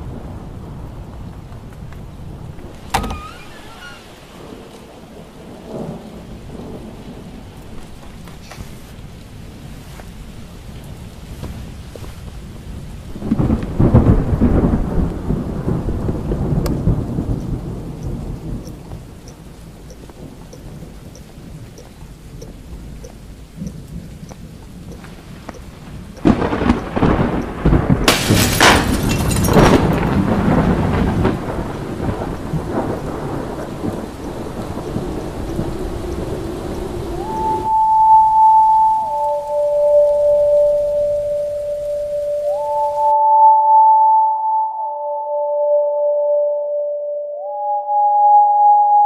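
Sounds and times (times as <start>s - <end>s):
steady rain: 0.0s - 43.1s
thunder rumbling: 0.0s - 43.2s.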